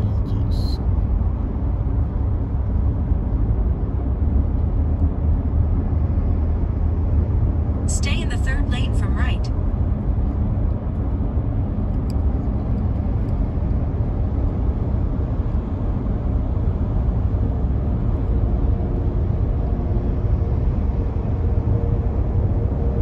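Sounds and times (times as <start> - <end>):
car road noise: 0.0 - 23.0.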